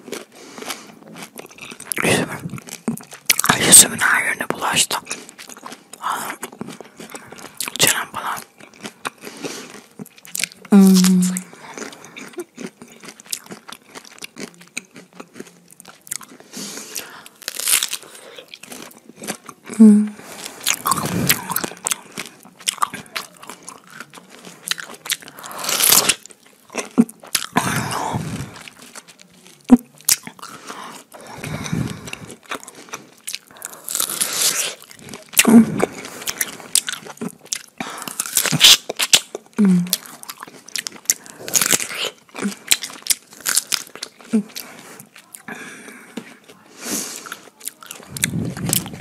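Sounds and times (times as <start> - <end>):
chewing with lip-smacking: 0.0 - 49.0.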